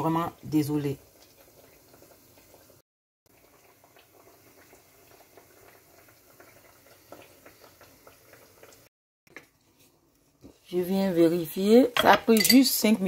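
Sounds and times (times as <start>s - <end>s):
hot fat crackling and bubbling: 0.0s - 10.6s.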